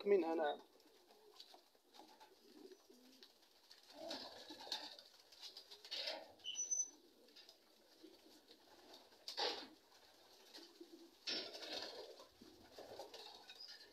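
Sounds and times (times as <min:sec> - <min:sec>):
pigeons cooing: 0:00.6 - 0:13.9.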